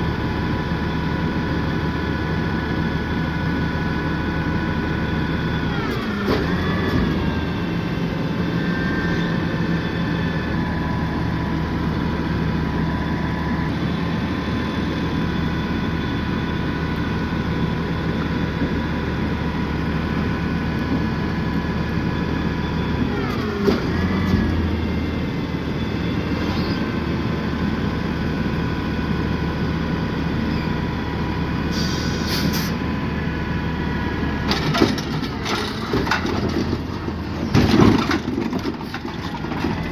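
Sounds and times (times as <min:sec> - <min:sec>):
garbage truck engine drone: 0:00.0 - 0:39.9.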